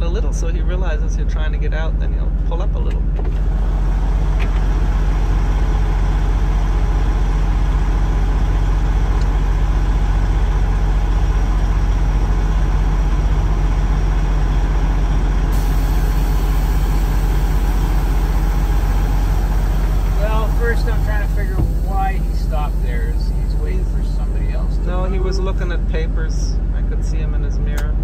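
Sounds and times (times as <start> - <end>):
diesel engine low drone: 0.0 - 28.0.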